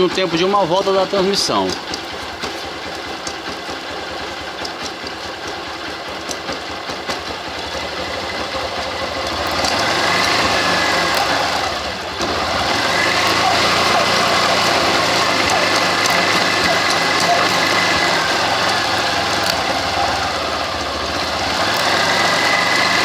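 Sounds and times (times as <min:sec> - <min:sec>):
chain drive knocking: 0:00.0 - 0:23.0
motorcycle engine revving: 0:00.0 - 0:23.0.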